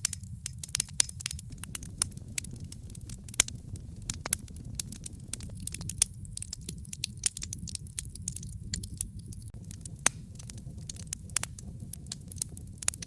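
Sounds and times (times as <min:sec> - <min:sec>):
wood fire crackling: 0:00.0 - 0:13.0
low fire rumble: 0:00.3 - 0:13.0.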